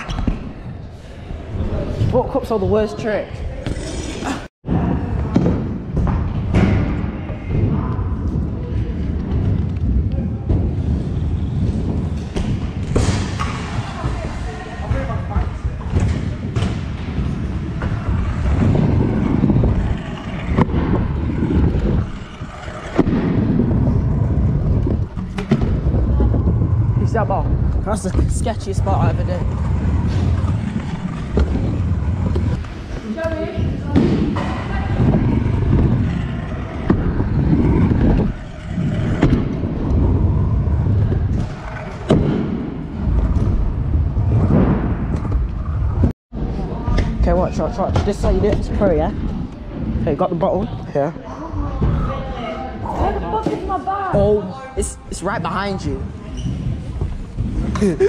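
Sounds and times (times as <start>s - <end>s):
scooter wheels rumbling on ramps: 4.7s - 50.8s, 56.0s - 58.0s.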